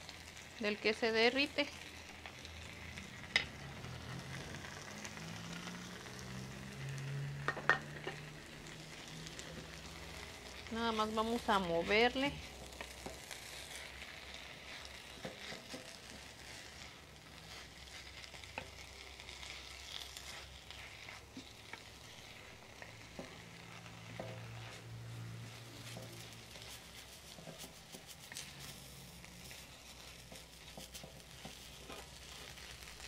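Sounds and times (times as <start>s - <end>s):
food sizzling in hot oil: 0.0s - 33.0s
wooden spoon scraping a pan: 0.0s - 33.0s.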